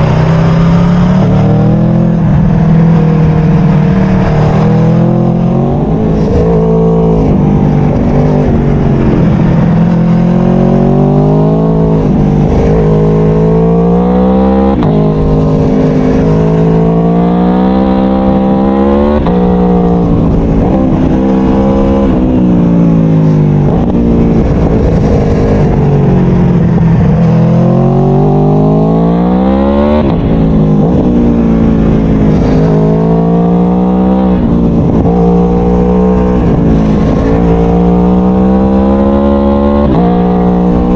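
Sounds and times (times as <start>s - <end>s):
low wind rush: 0.0s - 40.9s
motorcycle engine revving: 0.0s - 40.9s.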